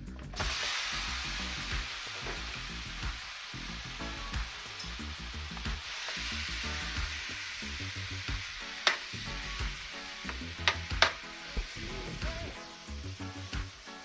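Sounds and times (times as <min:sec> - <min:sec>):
chicken sizzling in frying pan: 0:00.3 - 0:14.0.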